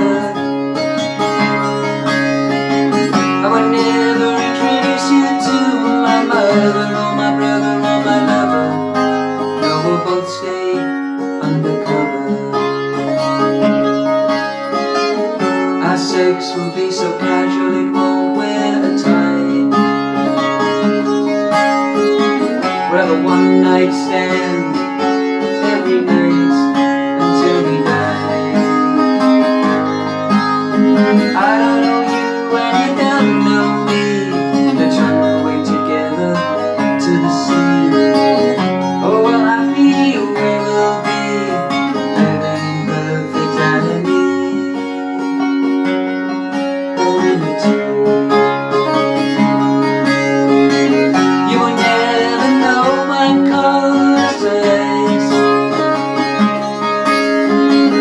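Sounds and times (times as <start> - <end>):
man singing: 0.0 - 13.4, 15.1 - 21.1, 22.4 - 30.1, 30.7 - 45.4, 46.8 - 58.0
strummed acoustic guitar: 0.0 - 58.0.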